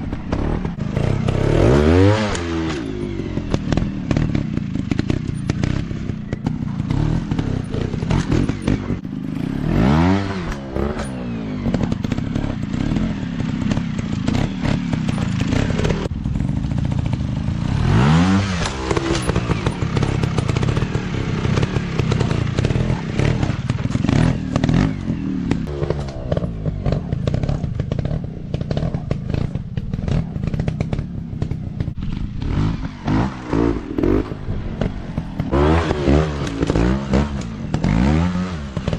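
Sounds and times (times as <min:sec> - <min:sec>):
constant clatter: 0:00.0 - 0:38.9
dirt bike engines revving: 0:00.0 - 0:38.9.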